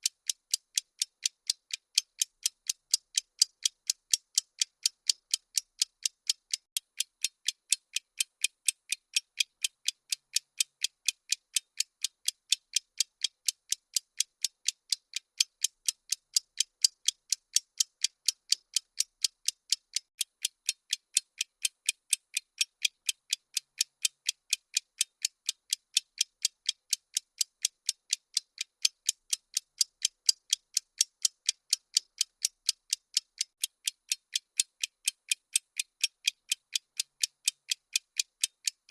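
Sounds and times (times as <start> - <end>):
timer ticking clicks: 0.0 - 38.9.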